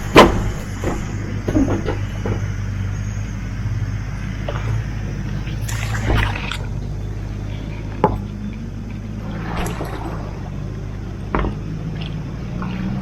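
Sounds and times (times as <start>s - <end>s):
vehicle engine at low revs: 0.0s - 13.0s.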